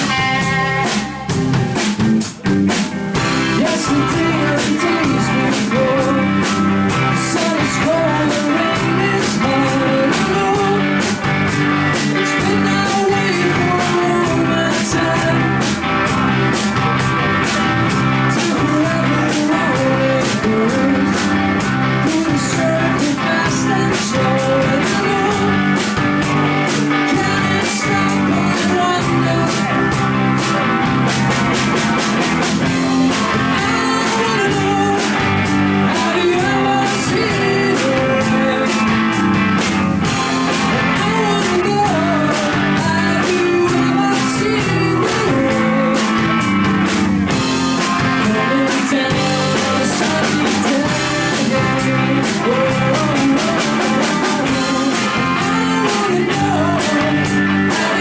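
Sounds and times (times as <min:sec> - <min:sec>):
person singing: 0:00.0 - 0:02.4, 0:03.1 - 0:31.0, 0:32.6 - 0:58.0
drum kit beat: 0:00.0 - 0:58.0
strummed guitar: 0:00.0 - 0:58.0.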